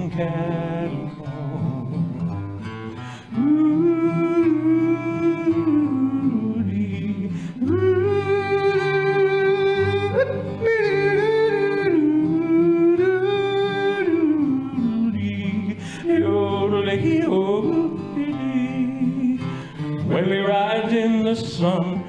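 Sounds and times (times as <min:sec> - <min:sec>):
strummed acoustic guitar: 0:00.0 - 0:22.0
man yodeling: 0:03.3 - 0:22.0.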